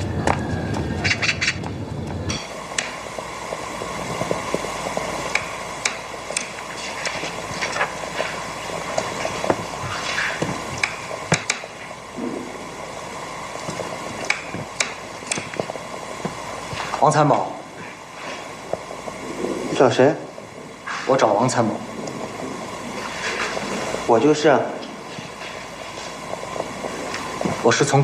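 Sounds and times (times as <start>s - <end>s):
background hum: 0.0s - 28.0s.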